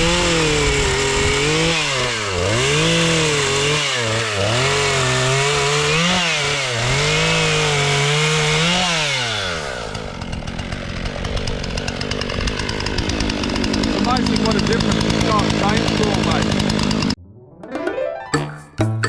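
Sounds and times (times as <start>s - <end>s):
chainsaw cutting wood: 0.0s - 17.2s.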